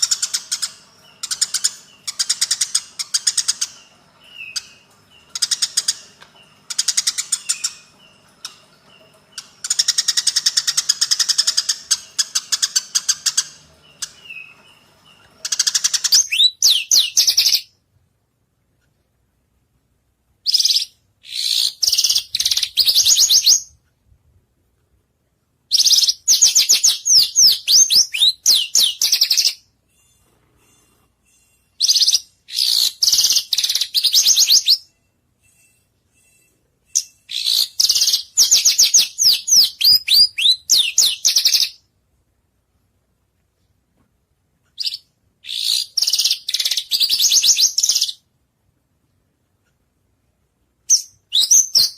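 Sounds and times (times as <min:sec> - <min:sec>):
bird song with fast trills: 0:00.0 - 0:17.8, 0:20.4 - 0:23.8, 0:25.7 - 0:41.9, 0:44.8 - 0:48.3, 0:50.9 - 0:51.9.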